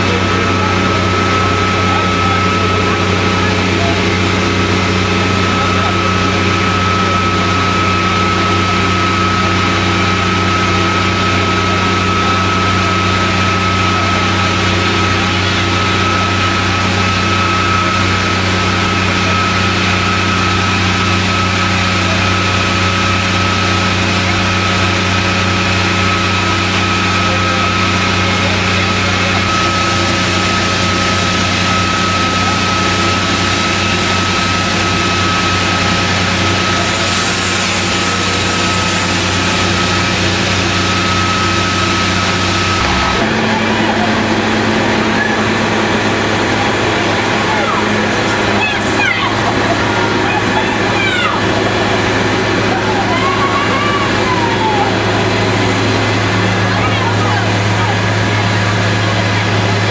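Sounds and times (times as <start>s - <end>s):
fire engine drone: 0.0s - 59.9s
high whine: 0.0s - 59.9s.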